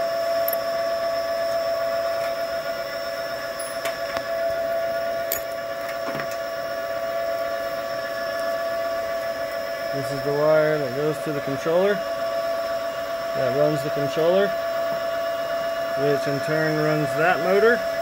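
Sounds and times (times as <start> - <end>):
motor-generator high whine: 0.0 - 18.0.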